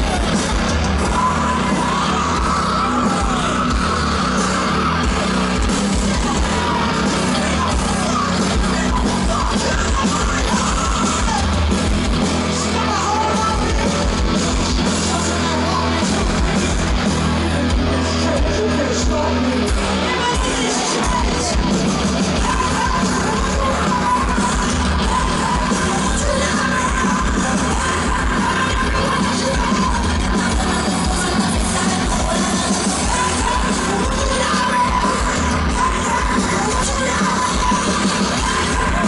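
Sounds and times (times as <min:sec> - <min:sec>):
heavy metal band playing live: 0:00.0 - 0:39.0.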